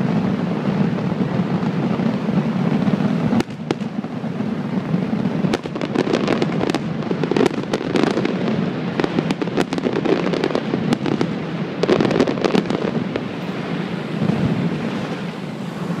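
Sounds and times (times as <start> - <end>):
fireworks cracks and bangs: 0.0 - 16.0
fireworks low rumble: 0.0 - 16.0.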